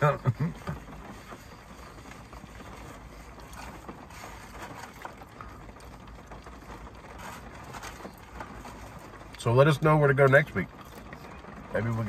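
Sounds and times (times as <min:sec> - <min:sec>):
car cabin rumble and hiss: 0:00.0 - 0:12.0.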